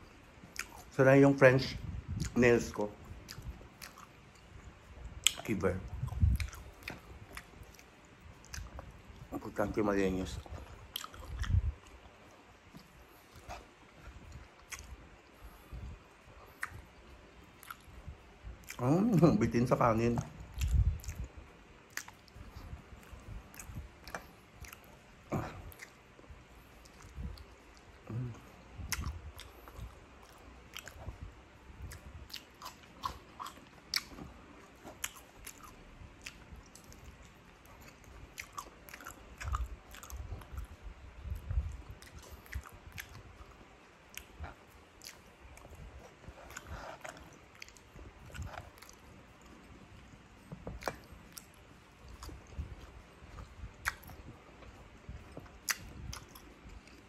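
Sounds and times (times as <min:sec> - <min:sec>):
chewing crispy crumbs: 0:00.0 - 0:57.0.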